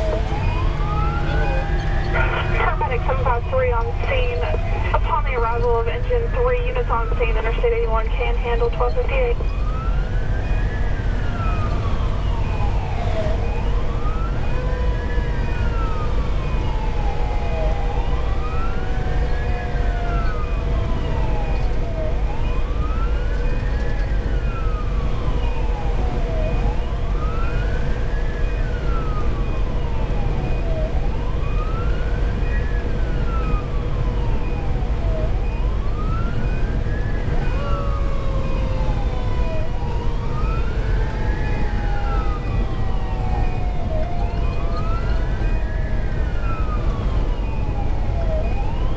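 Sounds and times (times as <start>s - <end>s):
diesel engine and road rumble: 0.0s - 48.9s
fire engine siren wailing: 0.0s - 48.9s.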